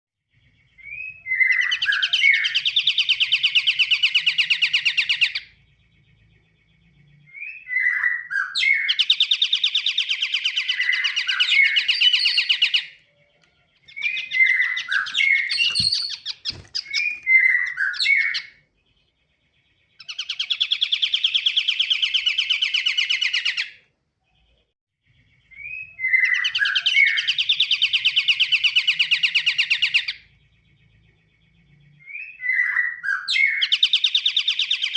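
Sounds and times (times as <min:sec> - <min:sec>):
bird singing fast trills: 0:00.3 - 0:34.9.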